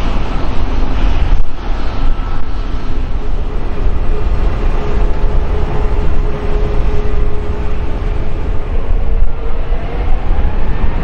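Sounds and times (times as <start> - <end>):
jet engines running: 0.0 - 11.0
wind buffeting microphone: 0.0 - 11.0.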